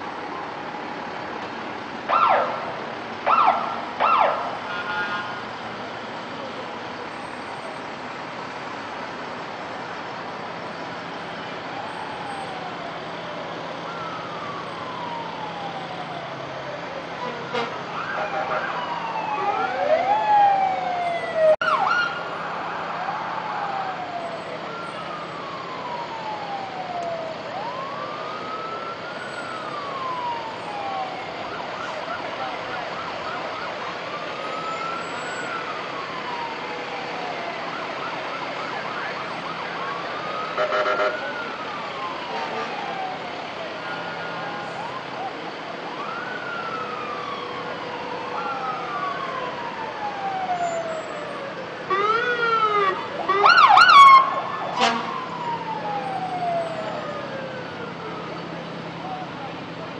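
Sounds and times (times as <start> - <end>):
fire truck siren wailing: 0.0 - 59.9.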